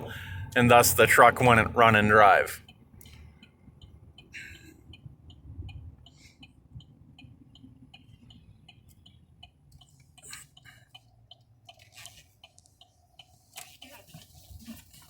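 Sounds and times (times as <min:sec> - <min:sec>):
turn signal ticking: 0:00.0 - 0:15.0.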